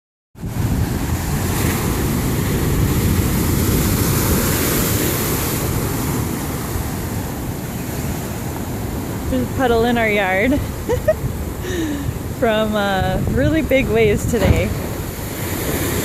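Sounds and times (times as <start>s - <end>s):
ocean waves breaking: 0.4s - 16.0s
wind buffeting microphone: 0.4s - 16.0s.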